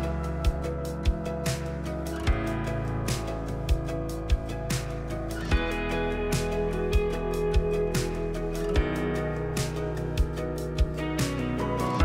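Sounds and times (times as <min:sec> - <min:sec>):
background music with a beat: 0:00.0 - 0:12.0.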